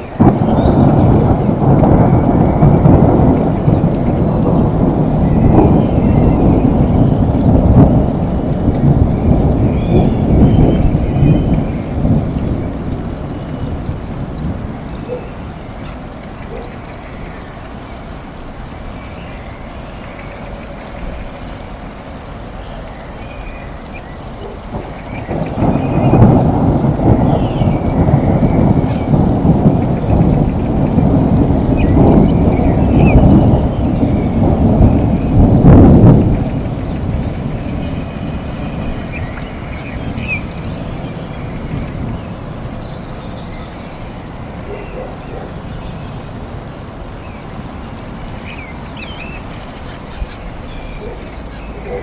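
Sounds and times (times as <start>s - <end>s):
rolling thunder: 0.0s - 52.0s
steady rain: 0.0s - 52.0s.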